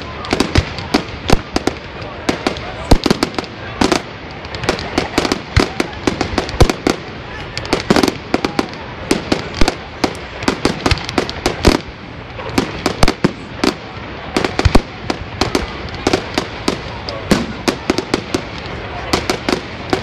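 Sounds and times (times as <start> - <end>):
fireworks bangs: 0.0 - 20.0
fireworks crackle: 0.0 - 20.0.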